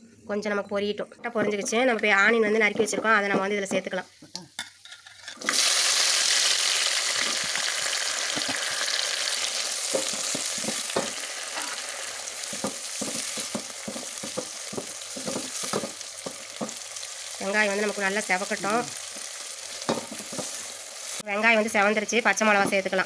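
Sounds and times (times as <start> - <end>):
onions sizzling in hot oil: 2.4 - 23.0.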